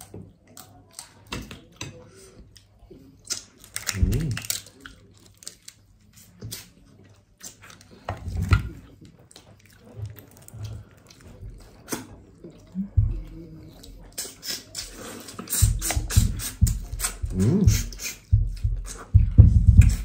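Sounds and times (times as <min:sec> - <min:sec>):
wet chewing: 0:02.5 - 0:20.0.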